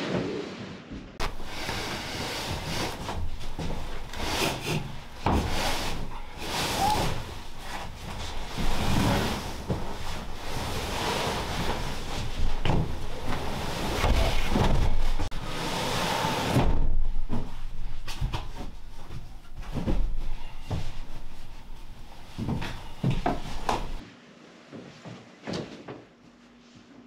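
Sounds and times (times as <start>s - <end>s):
fabric scraping on wood: 0.0s - 24.0s.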